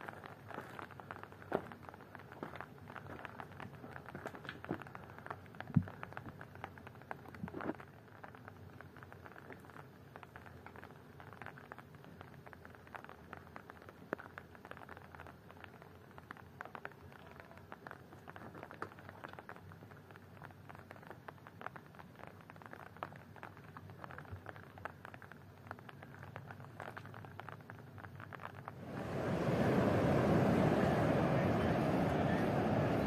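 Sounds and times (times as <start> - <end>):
small irregular ticks and patters: 0.0 - 28.8
low hiss: 0.0 - 33.0.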